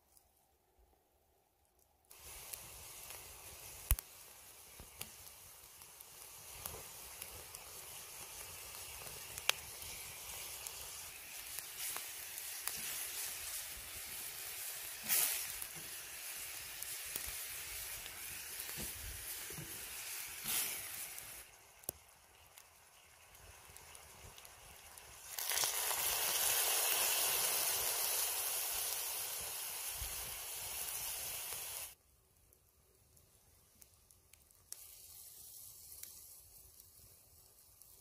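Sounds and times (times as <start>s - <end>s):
campfire crackling and hissing: 1.8s - 38.0s.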